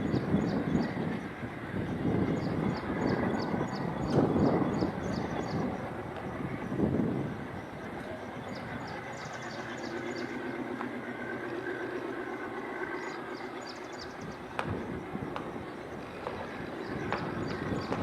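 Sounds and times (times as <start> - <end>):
diesel locomotive engine hum: 0.0 - 18.0.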